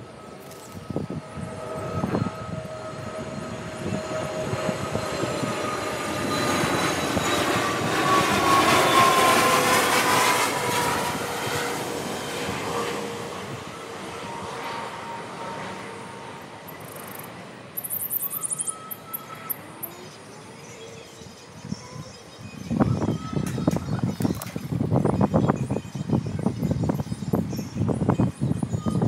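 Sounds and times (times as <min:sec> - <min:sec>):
passing engine whine: 0:00.0 - 0:29.0.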